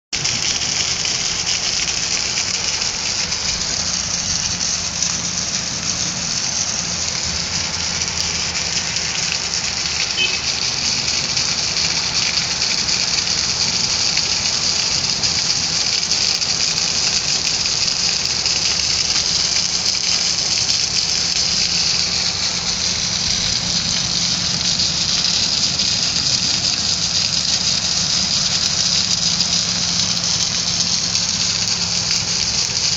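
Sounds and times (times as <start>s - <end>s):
heavy rain: 0.1s - 32.9s.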